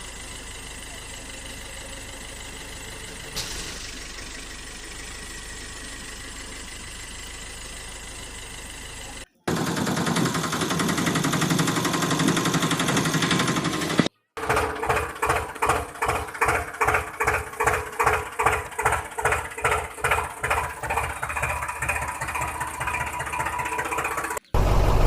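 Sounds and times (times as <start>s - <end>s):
loud rattling motor buzz: 0.0s - 25.0s.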